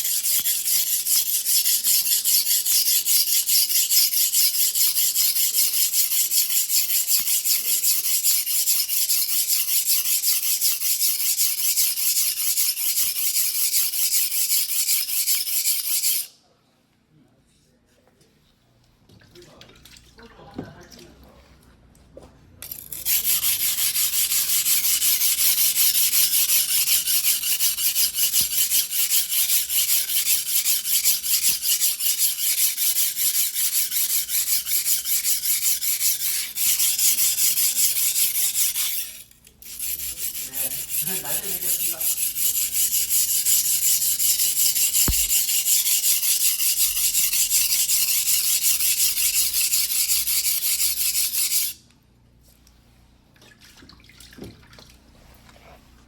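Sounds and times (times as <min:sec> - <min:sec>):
knife scraping on wet whetstone: 0:00.0 - 0:16.3, 0:22.7 - 0:51.8.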